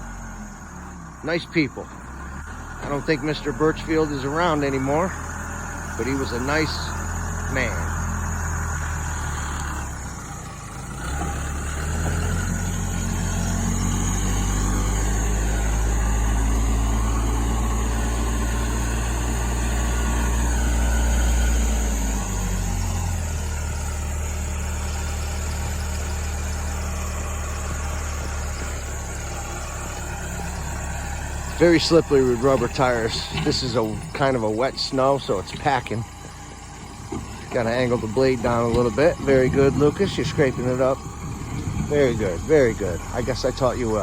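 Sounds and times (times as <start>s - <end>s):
diesel engine working: 0.0s - 44.0s.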